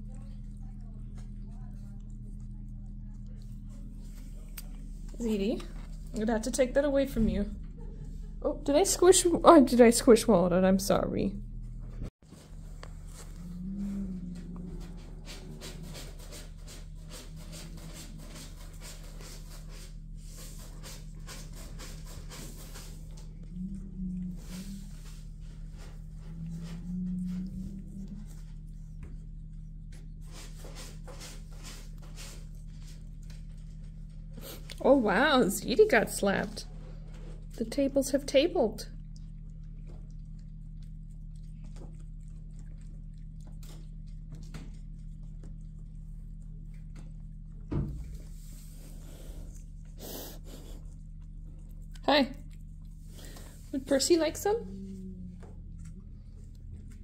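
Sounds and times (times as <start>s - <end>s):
cat lapping: 0.0s - 6.2s, 15.0s - 34.8s, 35.9s - 57.0s
steady low hum: 0.0s - 57.0s.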